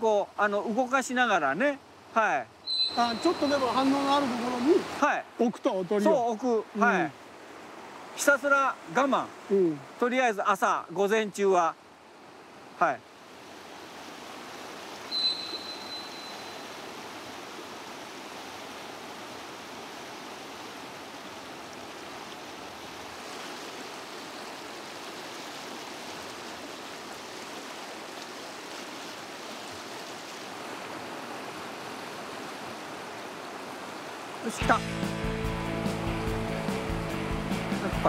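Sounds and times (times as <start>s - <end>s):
river rushing over stones: 0.0s - 34.7s.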